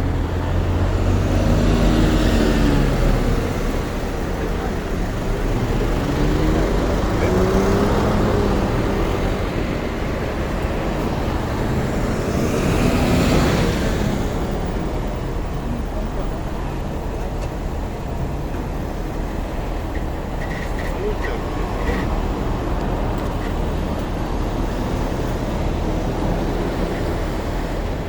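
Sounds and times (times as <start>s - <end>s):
heavy vehicle engine rumbling: 0.0s - 28.0s
street traffic: 0.0s - 28.0s.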